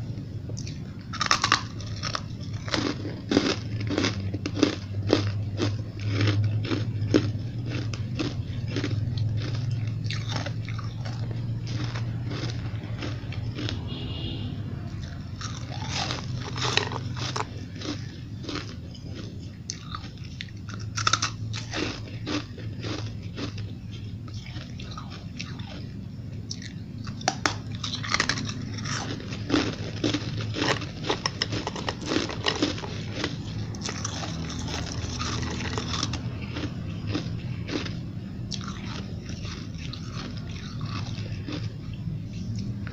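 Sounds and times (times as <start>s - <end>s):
ice crunching while chewed: 0.0s - 42.9s
steady low hum: 0.0s - 42.9s.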